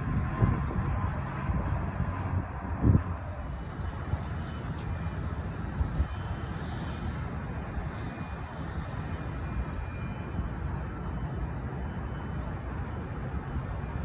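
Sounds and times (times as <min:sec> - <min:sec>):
jet engines rumbling and whining: 0:00.0 - 0:14.0.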